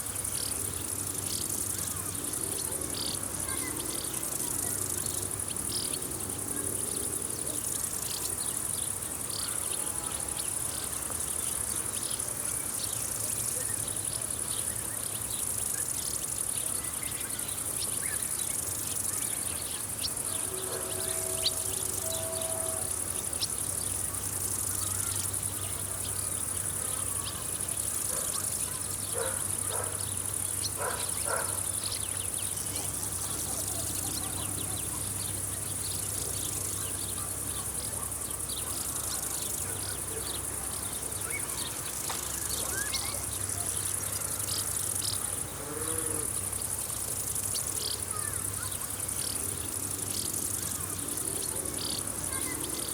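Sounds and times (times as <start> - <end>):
insects stridulating: 0.0 - 52.9.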